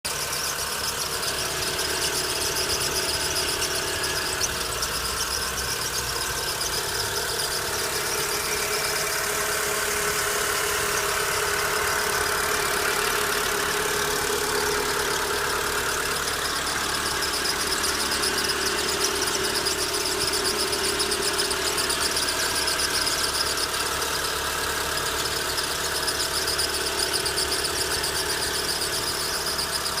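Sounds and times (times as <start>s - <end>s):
engine running steadily: 0.1s - 30.0s
held whining tones: 0.1s - 30.0s.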